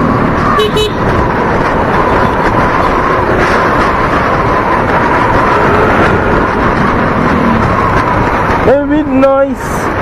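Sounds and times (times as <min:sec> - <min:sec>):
motorcycle engine: 0:00.0 - 0:10.0
road noise: 0:00.0 - 0:10.0
steady whine: 0:00.0 - 0:10.0
wind buffeting on microphone: 0:00.0 - 0:10.0.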